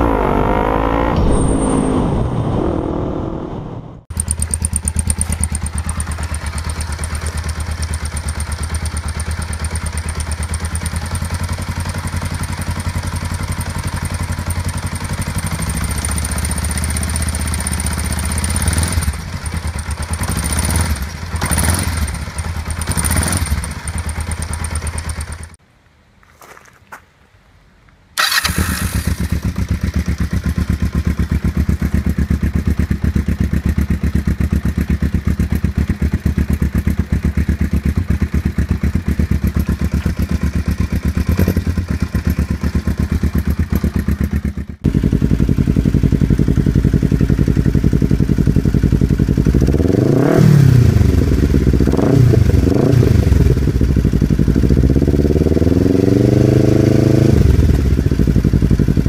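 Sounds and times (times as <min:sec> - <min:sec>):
motorcycle engine idling and revving: 0:00.0 - 0:25.6, 0:28.2 - 0:59.0.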